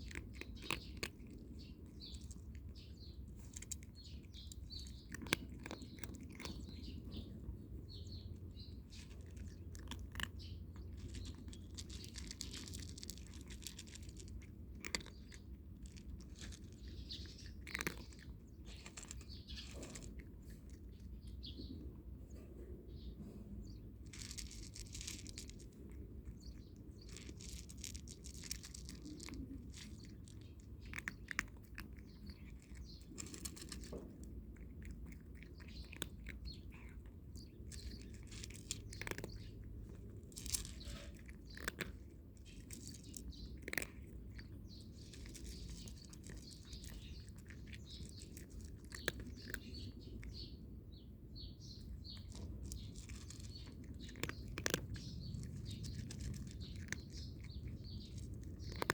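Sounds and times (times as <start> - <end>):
cat crunching dry kibble: 0.0 - 22.2, 23.3 - 58.9
birds chirping: 0.0 - 58.9.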